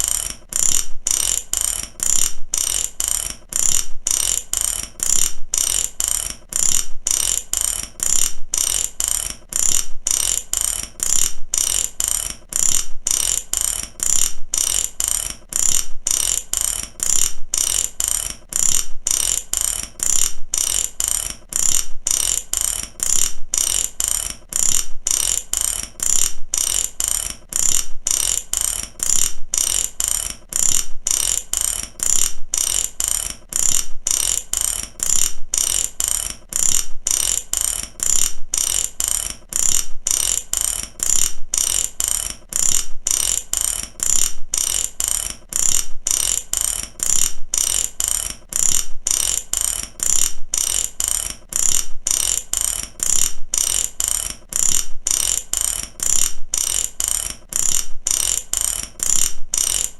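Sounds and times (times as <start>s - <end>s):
ratchet wrench clicking: 0.0s - 59.9s.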